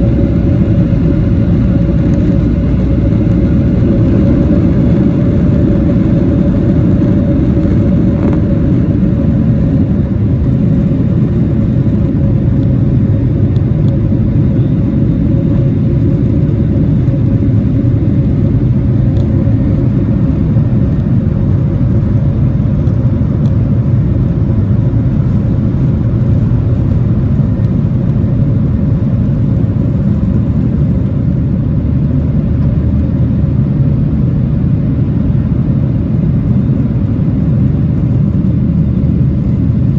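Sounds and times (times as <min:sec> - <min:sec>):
jet engine cabin rumble: 0:00.0 - 0:39.9
jet engine whine: 0:00.0 - 0:39.9.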